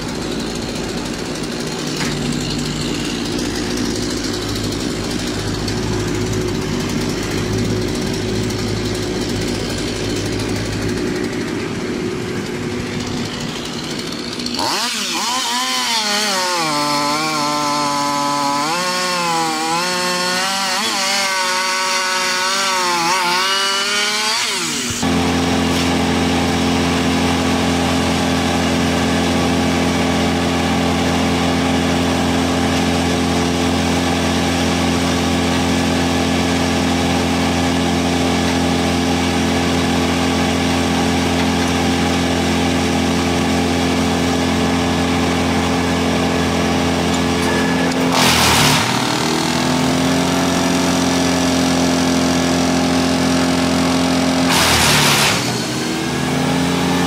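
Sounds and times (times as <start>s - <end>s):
chainsaw cutting log: 0.0s - 57.0s
wood chipper engine running: 0.0s - 57.0s.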